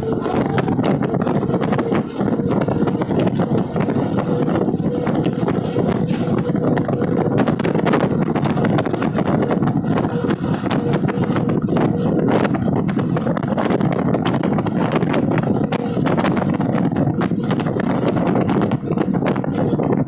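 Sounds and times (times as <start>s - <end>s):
highway traffic: 0.0s - 20.0s
wind buffeting microphone: 0.0s - 20.0s.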